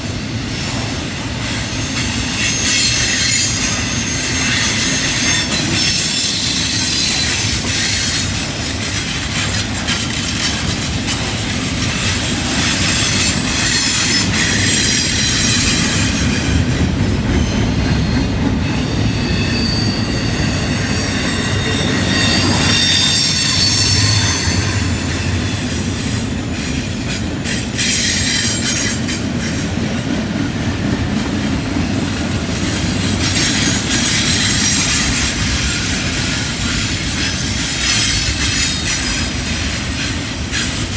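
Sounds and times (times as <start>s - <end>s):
rumble and clatter of freight cars: 0.0s - 40.9s
train wheels squealing: 0.0s - 40.9s.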